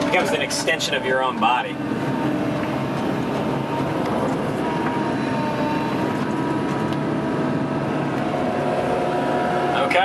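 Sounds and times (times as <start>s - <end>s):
excavator diesel engine and hydraulics: 0.0s - 10.0s.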